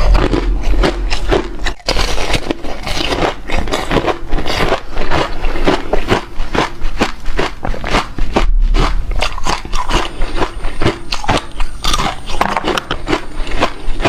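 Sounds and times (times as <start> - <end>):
chewing hard ice: 0.0 - 14.0.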